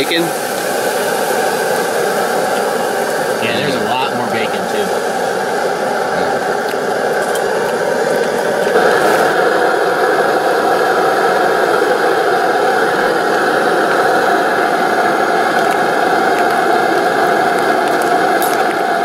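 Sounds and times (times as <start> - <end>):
camp stove burning hiss: 0.0 - 19.0.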